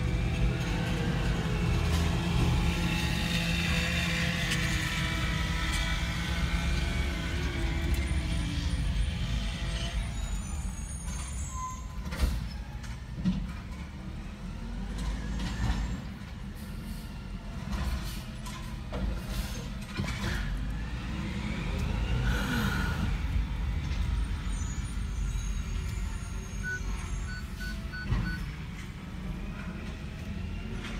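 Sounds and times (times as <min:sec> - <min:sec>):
garbage truck running: 0:00.0 - 0:30.9.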